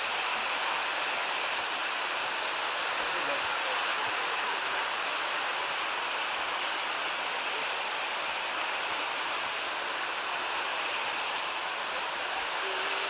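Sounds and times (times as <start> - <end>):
mountain stream water rushing: 0.0 - 13.0.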